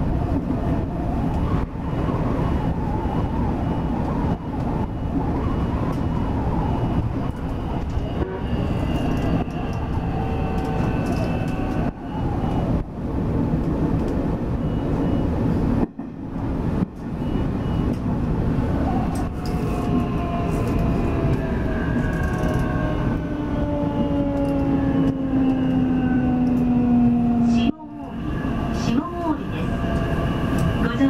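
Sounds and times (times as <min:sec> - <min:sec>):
train wheels rumbling on rail: 0:00.0 - 0:31.0
traction motors whining: 0:01.1 - 0:12.8, 0:17.2 - 0:31.0.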